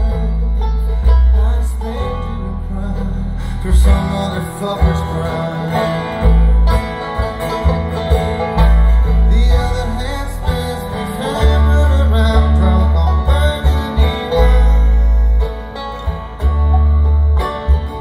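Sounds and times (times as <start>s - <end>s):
acoustic guitars strummed and picked: 0.0s - 18.0s
banjo: 0.0s - 18.0s
upright bass booming: 0.0s - 18.0s.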